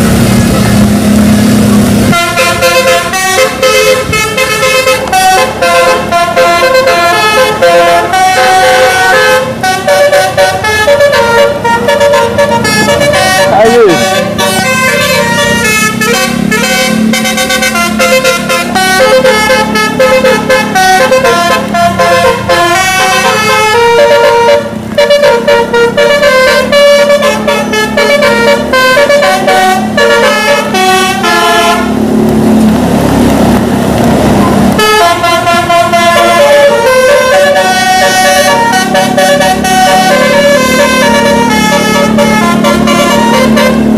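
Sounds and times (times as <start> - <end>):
rushing noise: 0.0 - 43.9
musical bus air horn: 1.9 - 32.1, 34.7 - 43.9.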